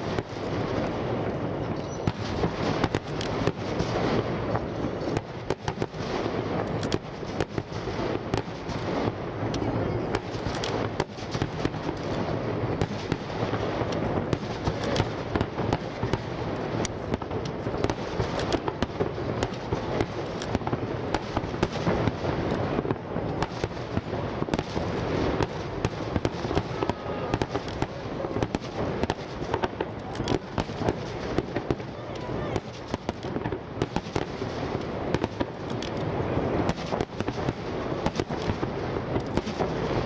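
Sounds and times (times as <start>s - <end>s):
fireworks cracking: 0.0s - 40.0s.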